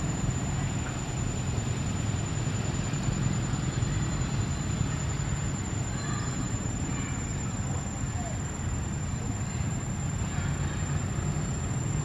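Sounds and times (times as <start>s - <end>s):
faint high-pitched whine: 0.0s - 12.0s
low rumbling background noise: 0.0s - 12.0s.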